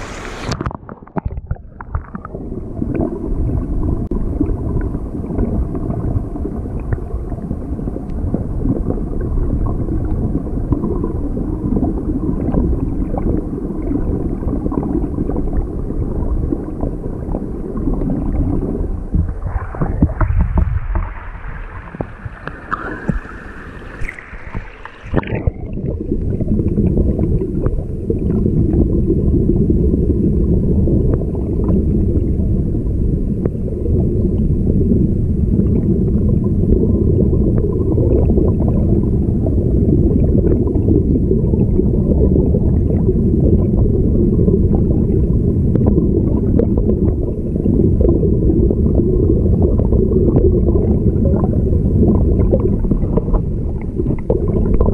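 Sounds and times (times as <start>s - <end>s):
muffled underwater stream rushing: 0.0s - 54.9s.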